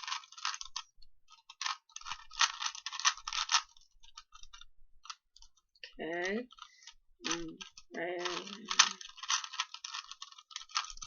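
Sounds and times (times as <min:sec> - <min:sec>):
puzzle cube clicking and scraping: 0:00.0 - 0:11.0.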